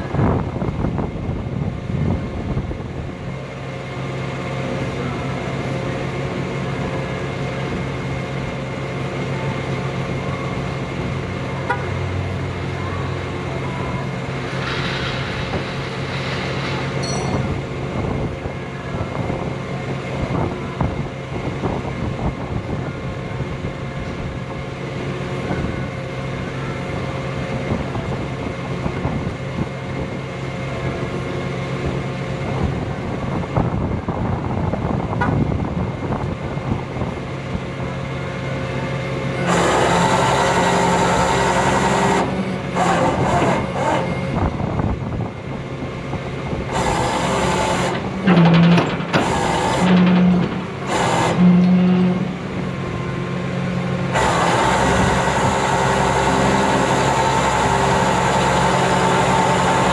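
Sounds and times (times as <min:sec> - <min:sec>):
high mechanical whine: 0:00.0 - 0:59.9
truck engine running: 0:00.0 - 0:59.9.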